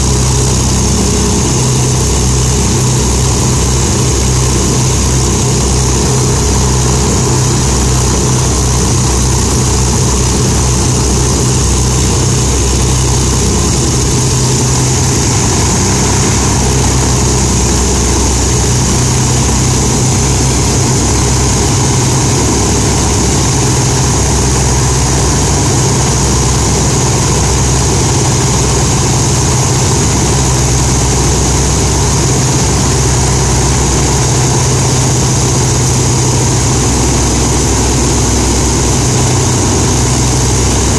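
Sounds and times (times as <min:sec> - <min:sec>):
piston aircraft engines running: 0:00.0 - 0:40.9.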